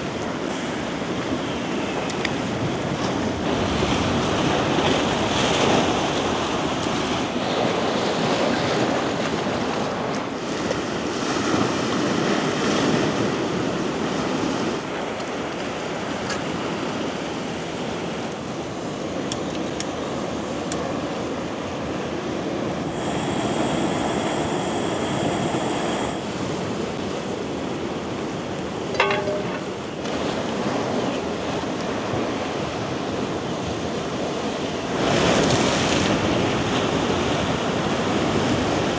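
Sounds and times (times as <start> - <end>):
waves washing onto shore: 0.0 - 38.9.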